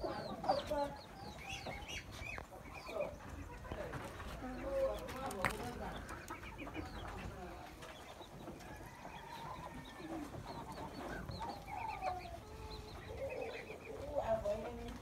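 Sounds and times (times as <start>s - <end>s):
lower poultry calls: 0.0s - 15.0s.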